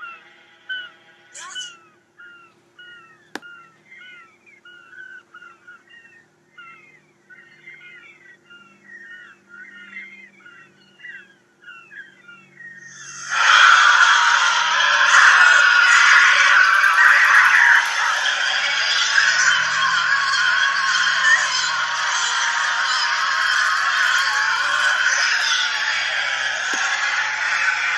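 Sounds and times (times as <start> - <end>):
chirping bird calls: 0.0 - 27.9.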